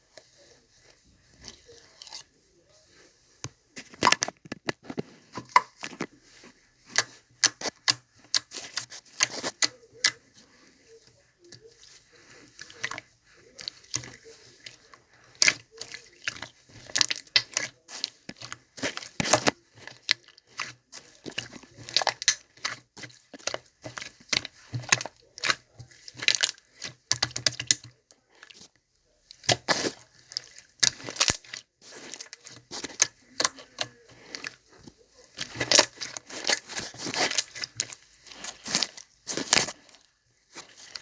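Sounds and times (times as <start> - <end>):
slime squishing with sticky pops: 0.0 - 41.0.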